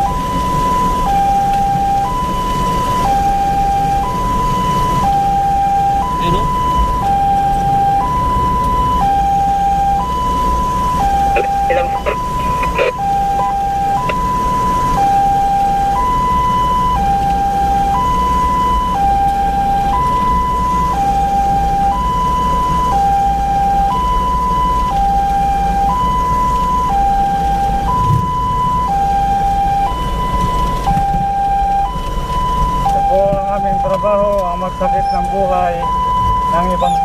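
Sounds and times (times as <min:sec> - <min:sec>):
engine and road rumble: 0:00.0 - 0:37.0
two-tone siren: 0:00.0 - 0:37.0.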